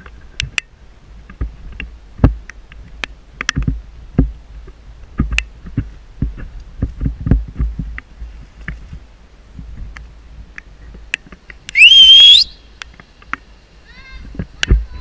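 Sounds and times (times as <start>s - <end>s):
wind on microphone: 0.0s - 12.6s, 13.8s - 15.0s.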